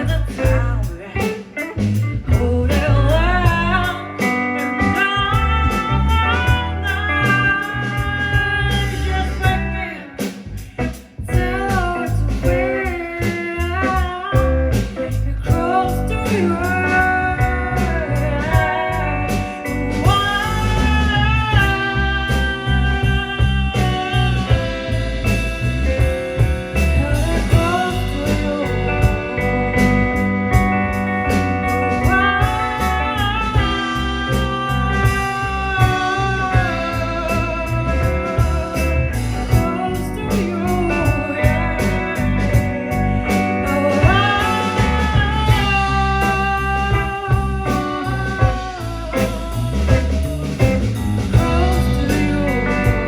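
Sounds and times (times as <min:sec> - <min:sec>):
bass and drums: 0:00.0 - 0:53.0
blues band playing: 0:00.0 - 0:53.0
electric guitar lead line: 0:00.0 - 0:53.0.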